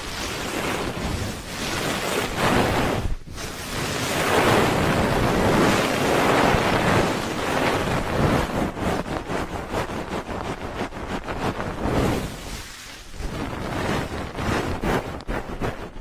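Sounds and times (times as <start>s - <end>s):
hands rubbing on microphone: 0.0s - 16.0s.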